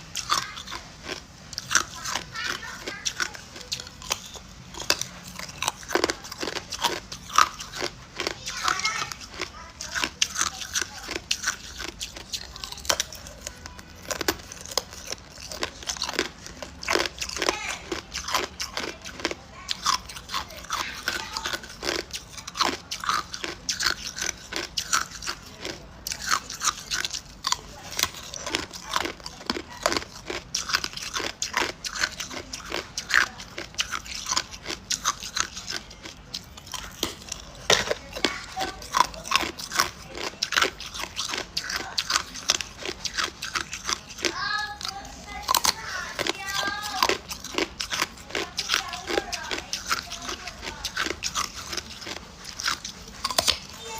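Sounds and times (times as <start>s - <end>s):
ice cubes being crunched: 0.0s - 53.9s.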